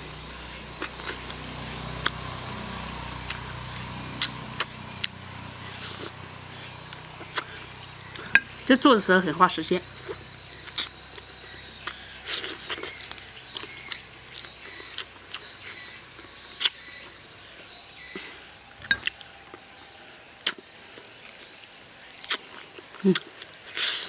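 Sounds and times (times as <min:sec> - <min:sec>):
wet chewing and lip smacks: 0:00.5 - 0:08.7, 0:09.9 - 0:16.8, 0:19.0 - 0:24.0.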